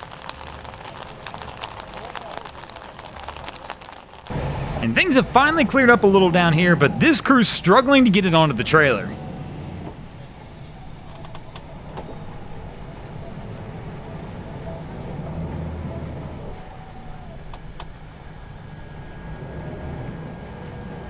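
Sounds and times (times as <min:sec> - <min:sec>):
outboard motors rumbling: 0:00.0 - 0:21.0.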